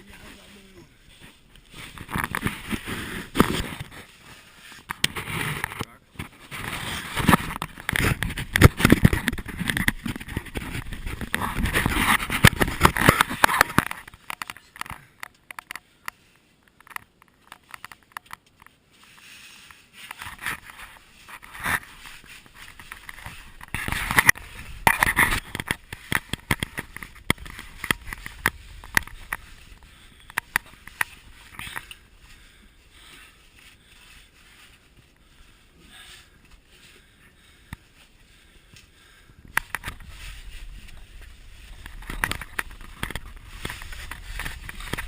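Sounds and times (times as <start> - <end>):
clothing and gear scraping and rustling: 0.0 - 14.8, 18.6 - 38.7, 39.5 - 45.0.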